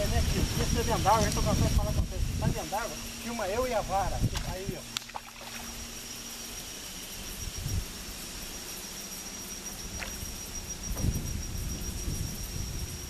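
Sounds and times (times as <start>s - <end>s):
high-pitched insect call: 0.0s - 13.0s.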